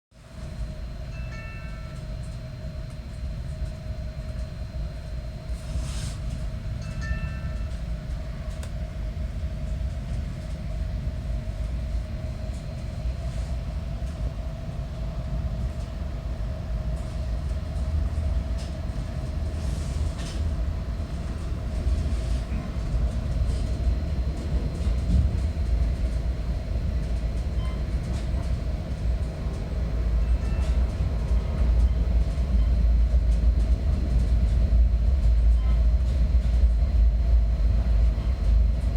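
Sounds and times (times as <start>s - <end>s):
train rumbling on rails: 0.1s - 38.9s.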